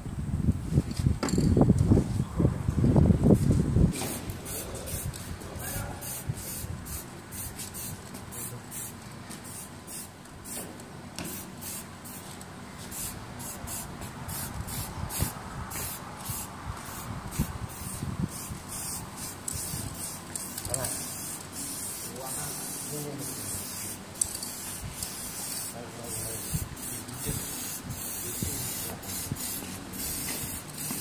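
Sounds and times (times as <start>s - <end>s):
spray paint can bursts: 3.9s - 5.3s, 6.0s - 12.2s, 12.9s - 31.0s.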